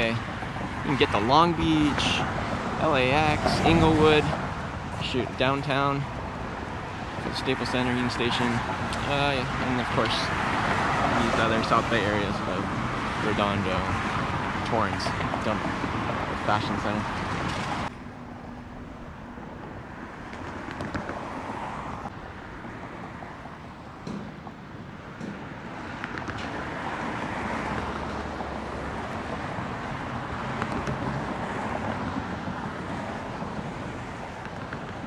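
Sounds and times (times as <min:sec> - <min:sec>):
cars passing: 0:00.0 - 0:35.0.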